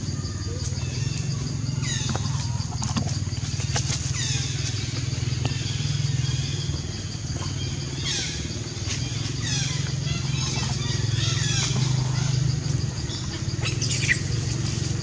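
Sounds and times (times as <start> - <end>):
low motor-like hum: 0.0 - 15.0.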